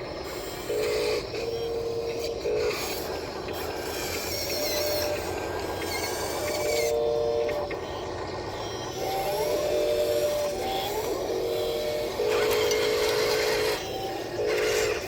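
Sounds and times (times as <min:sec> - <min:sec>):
model excavator motors whining: 0:00.0 - 0:15.0.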